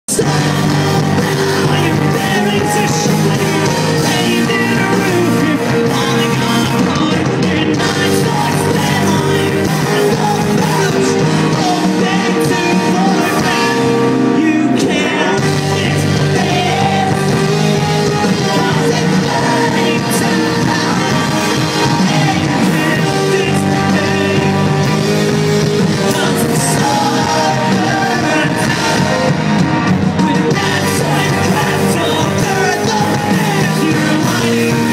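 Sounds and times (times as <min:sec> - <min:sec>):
drums: 0:00.0 - 0:34.9
electric guitars: 0:00.1 - 0:34.9
person singing: 0:00.1 - 0:34.9.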